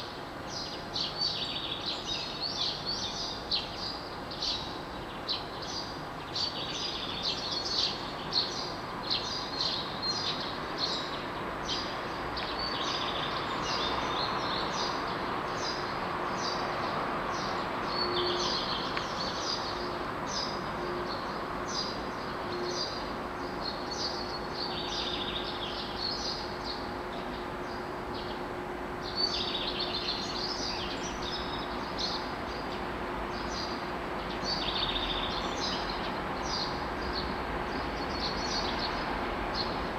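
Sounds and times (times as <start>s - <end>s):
outdoor background hum: 0.0s - 39.9s
songbirds chirping and singing: 0.0s - 39.9s.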